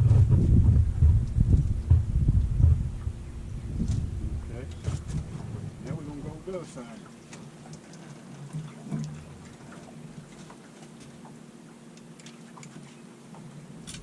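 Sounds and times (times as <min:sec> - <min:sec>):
faint boat motor hum: 0:00.0 - 0:14.0.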